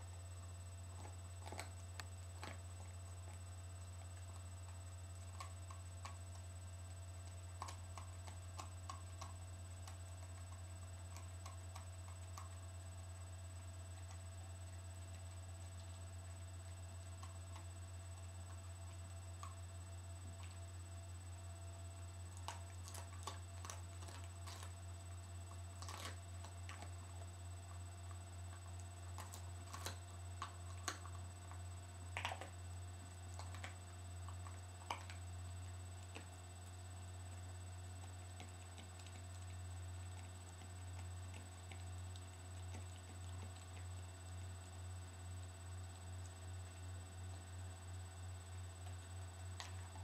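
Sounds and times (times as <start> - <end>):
steady low hum: 0.0 - 50.0
dog teeth cracking on bone: 0.8 - 20.8, 22.1 - 36.6, 37.3 - 44.8, 48.7 - 50.0.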